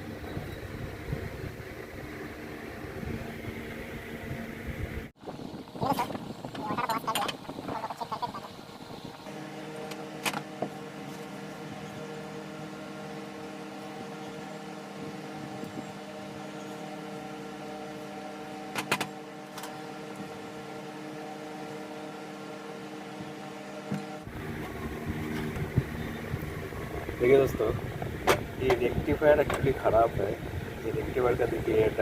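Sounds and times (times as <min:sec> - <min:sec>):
electric fan humming: 0:00.0 - 0:32.0.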